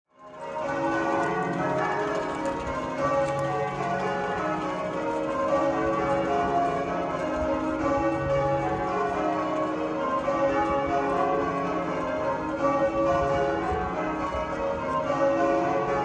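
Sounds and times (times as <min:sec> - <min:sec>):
church bells change ringing: 0:00.2 - 0:16.0.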